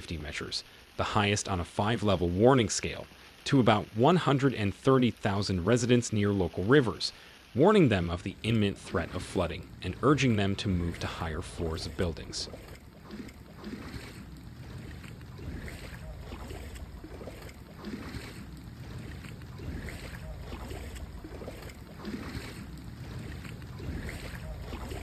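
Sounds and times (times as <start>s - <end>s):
water washing on street: 0.0s - 25.0s.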